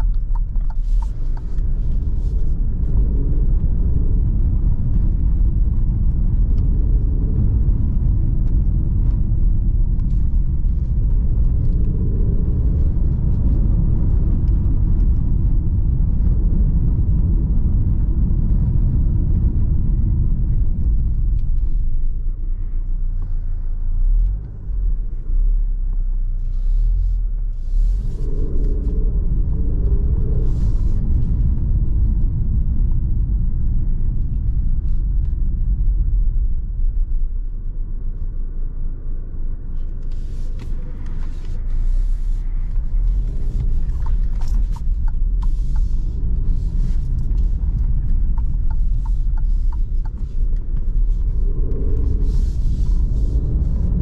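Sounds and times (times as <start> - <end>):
tyres rumbling on cobblestones: 0.0 - 26.5, 27.2 - 54.0.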